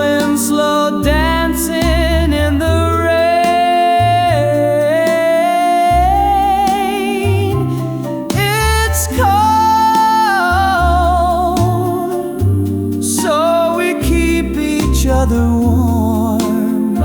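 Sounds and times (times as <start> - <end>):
doo-wop ballad: 0.0 - 17.0.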